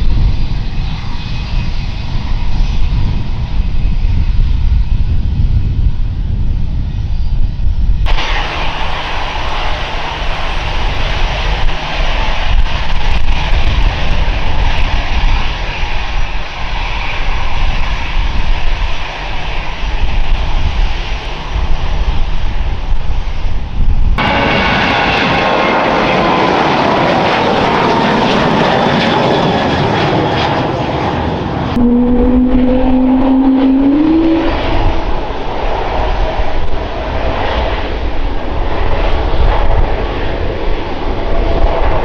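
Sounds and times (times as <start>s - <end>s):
jet engine whine: 0.0s - 42.0s
jet engines roaring: 8.1s - 42.0s.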